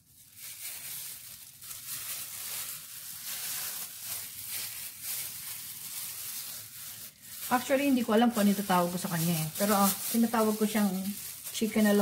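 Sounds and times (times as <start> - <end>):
plastic gloves rustling: 0.0 - 12.0.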